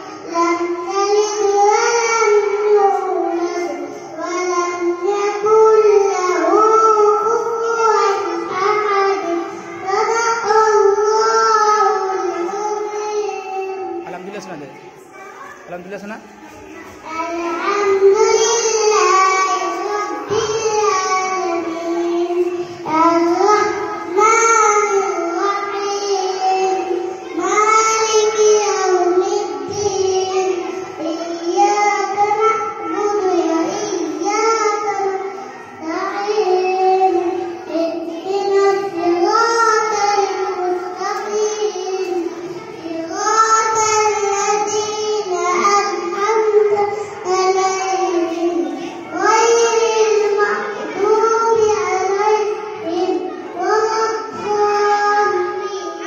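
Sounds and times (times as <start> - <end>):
child singing a recitation: 0.0 - 56.0.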